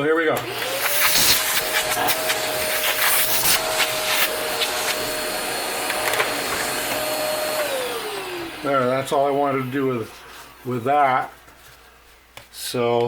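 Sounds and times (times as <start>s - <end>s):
vacuum cleaner running: 0.3s - 11.5s.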